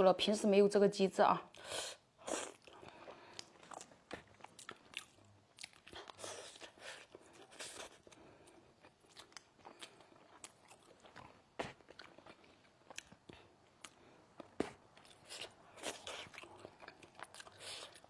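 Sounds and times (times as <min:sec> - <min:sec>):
person chewing: 0:01.6 - 0:18.0.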